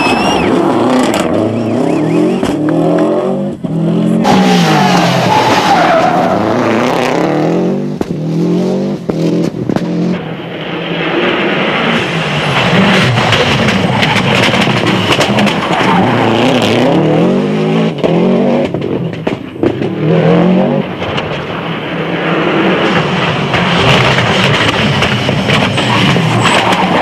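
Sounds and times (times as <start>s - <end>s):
rally car engine revving: 0.0s - 27.0s
tyre and road noise: 0.0s - 27.0s.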